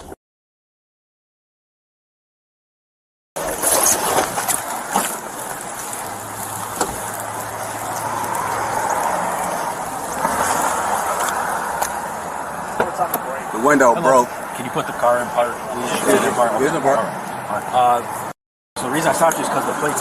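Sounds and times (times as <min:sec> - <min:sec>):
rushing vehicle and road noise: 0:03.4 - 0:20.0.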